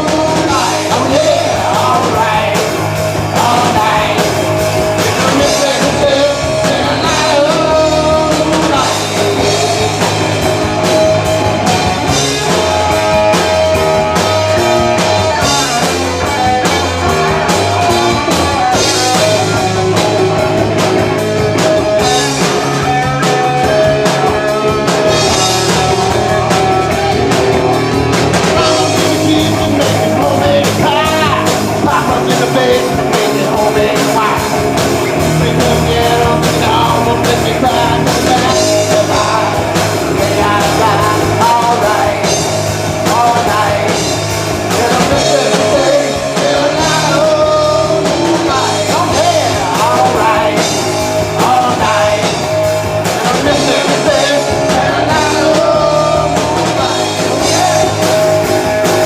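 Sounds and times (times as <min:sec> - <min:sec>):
live rock band: 0:00.0 - 0:59.0
person singing: 0:00.0 - 0:59.0.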